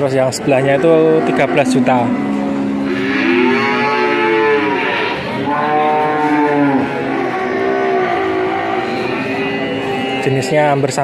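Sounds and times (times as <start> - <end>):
cattle mooing: 0.5 - 10.8.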